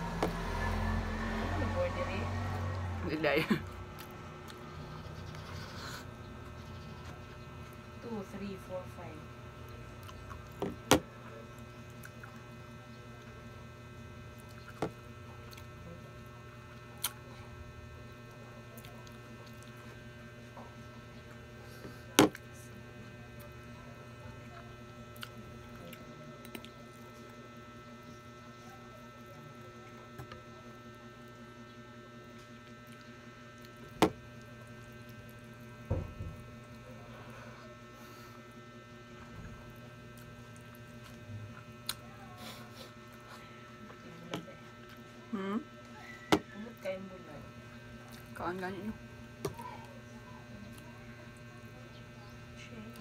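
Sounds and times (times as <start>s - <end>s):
low electrical hum: 0.0s - 53.0s.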